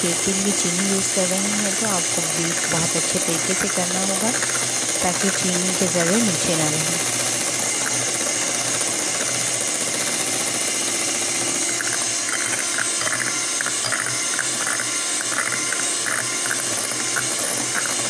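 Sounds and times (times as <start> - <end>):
electric hand mixer running: 0.0 - 18.0.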